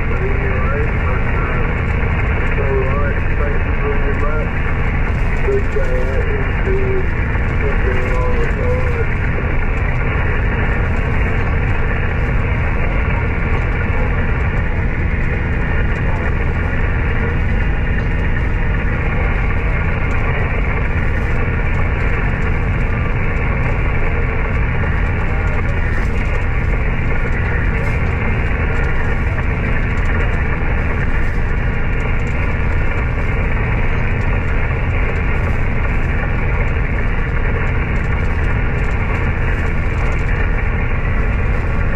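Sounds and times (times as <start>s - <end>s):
radio static hiss: 0.0s - 41.9s.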